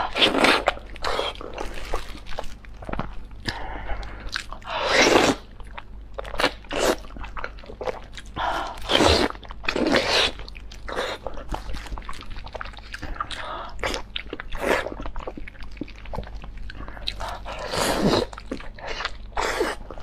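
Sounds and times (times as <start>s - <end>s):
wet chewing and biting: 0.1s - 20.0s.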